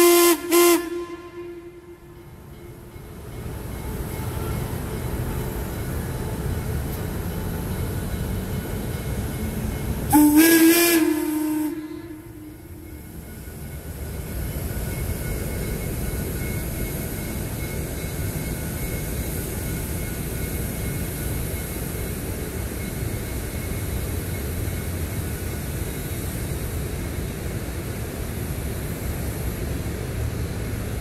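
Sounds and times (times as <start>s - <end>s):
train rumbling over steel bridge: 0.0s - 31.0s.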